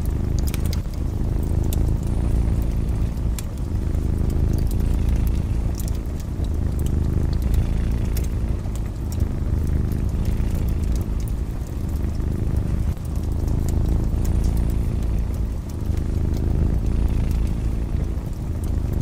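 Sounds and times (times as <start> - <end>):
cat purring: 0.0 - 19.0
wood fire crackling: 0.0 - 19.0.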